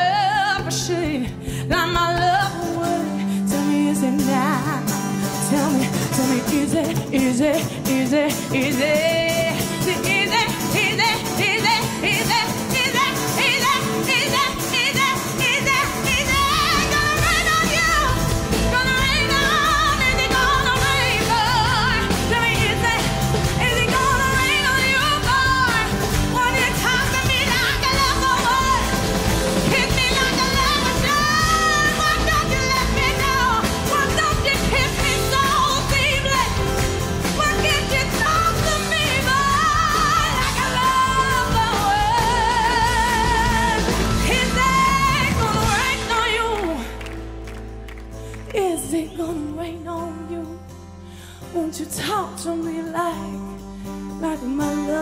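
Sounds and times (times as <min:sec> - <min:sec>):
full band playing: 0:00.0 - 0:55.0.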